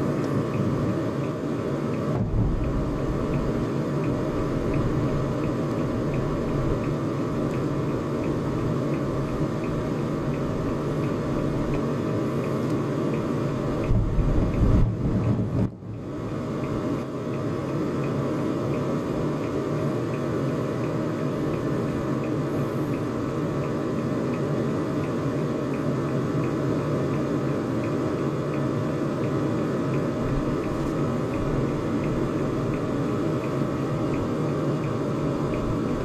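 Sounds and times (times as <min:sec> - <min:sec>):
faint regular ticking: 0:00.2 - 0:14.6, 0:15.9 - 0:36.0.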